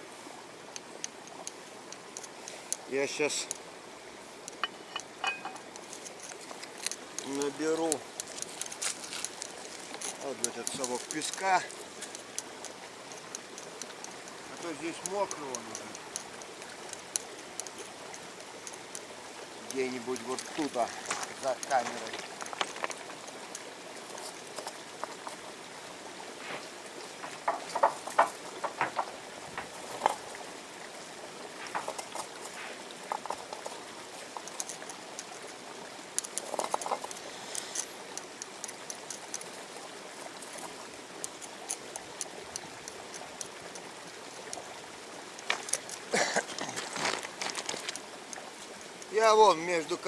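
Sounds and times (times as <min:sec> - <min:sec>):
shallow river rushing: 0:00.0 - 0:50.0.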